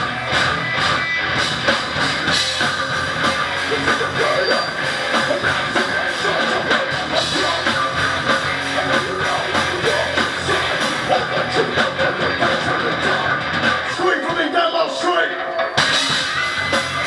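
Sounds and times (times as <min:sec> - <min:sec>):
bass guitar: 0:00.0 - 0:17.0
drum kit: 0:00.0 - 0:17.0
electric guitars: 0:00.0 - 0:17.0.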